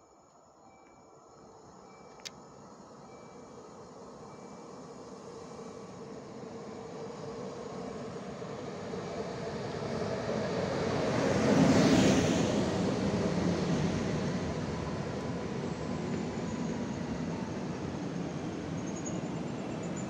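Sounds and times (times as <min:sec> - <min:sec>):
electric train passing at speed: 0:00.4 - 0:20.0.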